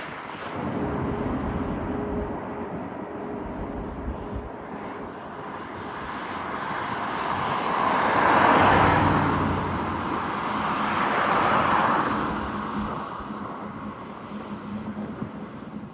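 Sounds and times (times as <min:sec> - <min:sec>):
jet engines rushing: 0:00.0 - 0:15.7.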